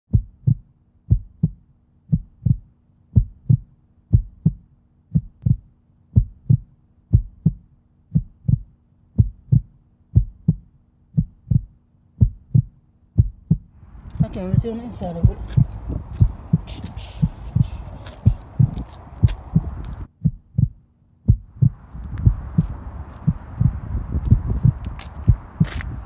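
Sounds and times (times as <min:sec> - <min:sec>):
faint low hum: 0:00.1 - 0:26.0
heartbeat thumps: 0:00.1 - 0:26.0.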